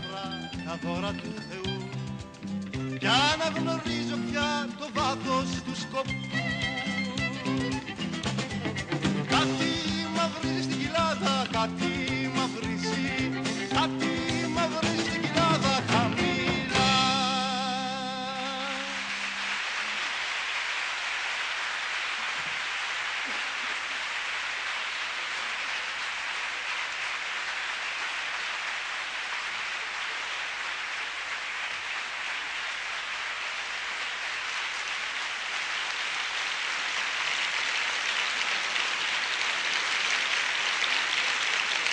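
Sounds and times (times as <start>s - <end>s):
audience applauding: 6.2s - 41.9s.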